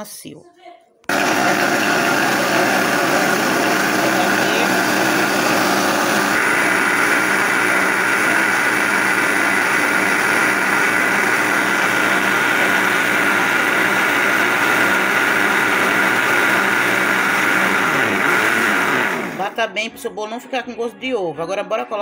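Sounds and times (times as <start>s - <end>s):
blender motor whine: 1.1s - 19.6s.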